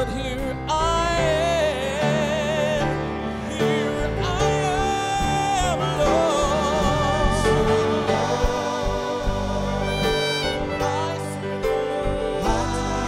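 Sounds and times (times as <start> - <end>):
electric bass: 0.0 - 13.0
keyboard: 0.0 - 13.0
man singing with vibrato: 0.0 - 13.0
piano: 0.0 - 13.0.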